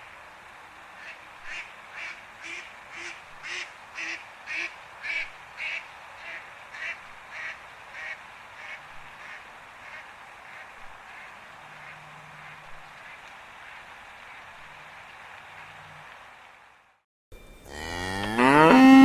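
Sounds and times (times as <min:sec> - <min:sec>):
steady hiss: 0:00.0 - 0:18.4.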